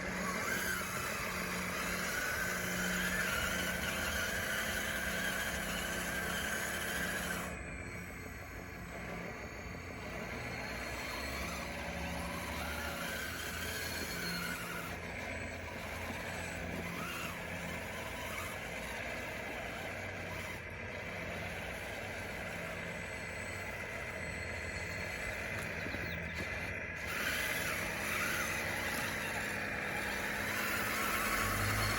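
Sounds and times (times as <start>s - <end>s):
machine mechanical drone: 0.0s - 31.9s
motor whines: 0.0s - 31.9s.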